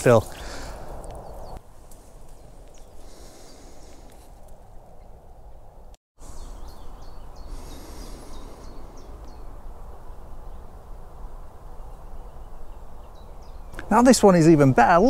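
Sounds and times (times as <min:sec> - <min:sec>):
small birds chirping: 0:00.0 - 0:01.6, 0:02.2 - 0:14.3
high birdsong: 0:00.0 - 0:15.0
wind rumbling on microphone: 0:00.2 - 0:13.9.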